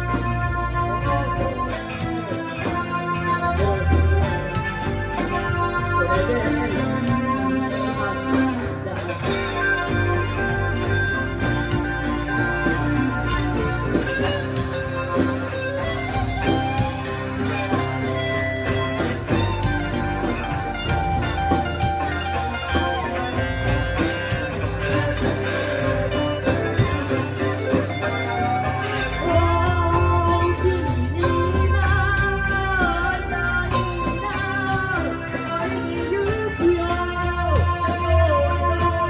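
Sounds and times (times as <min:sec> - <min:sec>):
electric guitar: 0:00.0 - 0:39.0
live rock band playing: 0:00.0 - 0:39.0.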